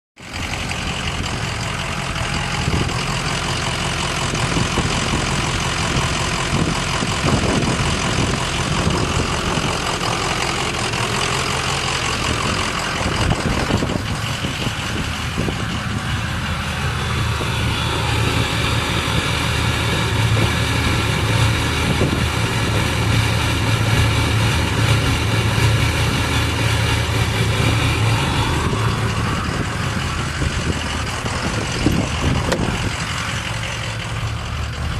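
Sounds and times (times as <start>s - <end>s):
diesel engine idling rough: 0.2s - 34.9s.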